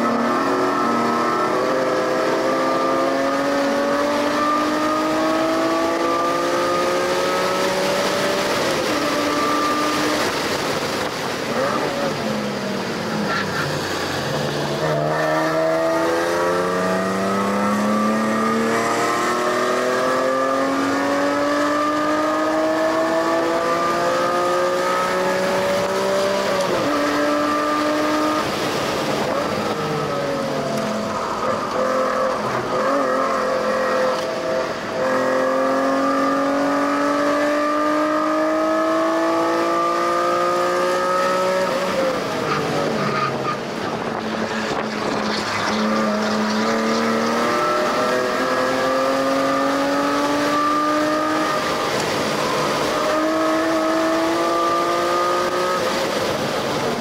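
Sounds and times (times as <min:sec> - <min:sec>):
car engine revving at full throttle: 0:00.0 - 0:57.0.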